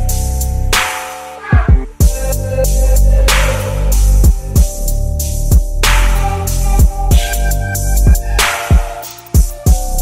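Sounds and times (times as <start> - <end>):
electronic hip-hop beat: 0.0 - 10.0.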